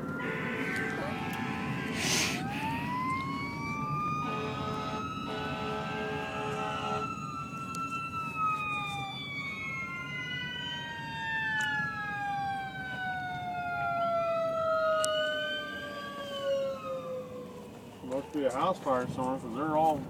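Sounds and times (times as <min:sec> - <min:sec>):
fire engine sirens wailing: 0:00.0 - 0:20.0
low road rumble: 0:00.0 - 0:20.0.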